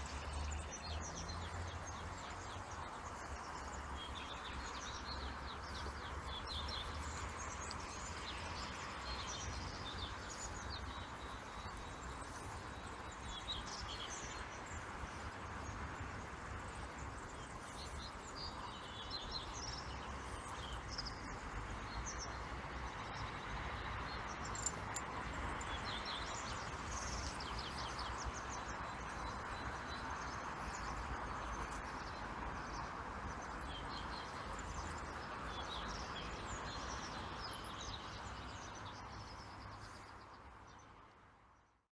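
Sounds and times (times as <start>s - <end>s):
distant car traffic hum: 0.0s - 41.5s
songbirds chirping: 0.0s - 41.9s.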